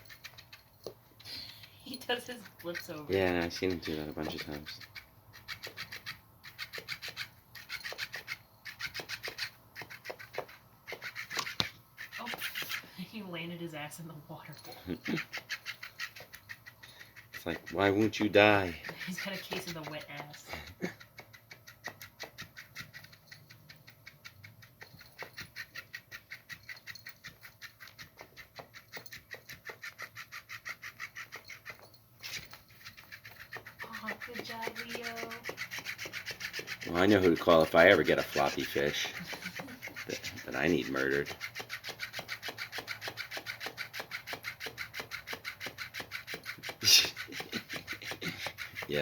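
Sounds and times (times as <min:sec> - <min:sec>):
metallic motor sound: 0:00.0 - 0:49.0
toy fish flapping: 0:00.0 - 0:49.0.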